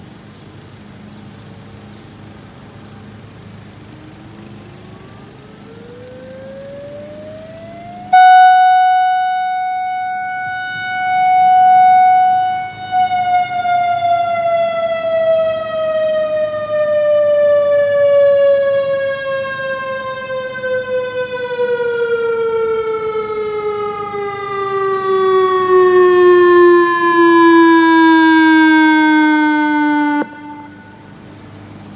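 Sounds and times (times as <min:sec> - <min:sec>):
tornado siren: 0:03.4 - 0:31.7.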